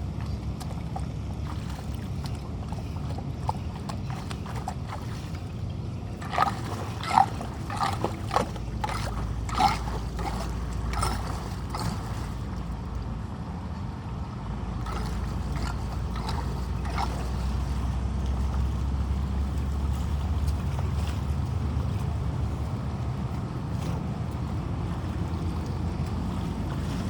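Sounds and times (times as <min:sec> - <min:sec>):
flood water rushing: 0:00.0 - 0:13.1, 0:14.8 - 0:27.0.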